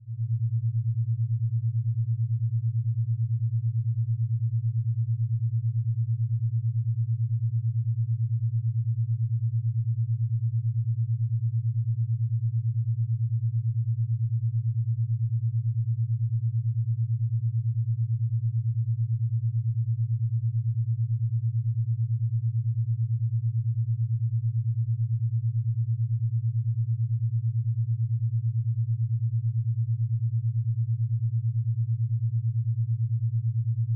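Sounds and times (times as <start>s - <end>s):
deep wobbling hum drone: 0.0s - 33.9s.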